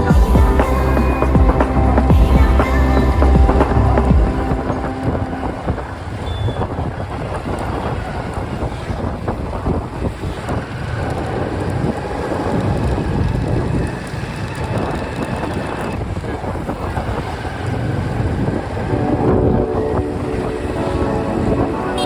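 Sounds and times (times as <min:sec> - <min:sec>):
motorbike engine and tyre rumble: 0:00.0 - 0:18.9
wind buffeting microphone: 0:00.0 - 0:22.0.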